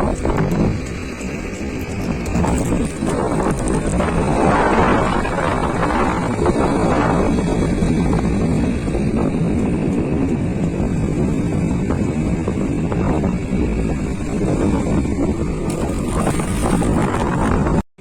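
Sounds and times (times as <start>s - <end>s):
motorbike running: 0.0s - 17.8s
road noise: 0.0s - 18.0s.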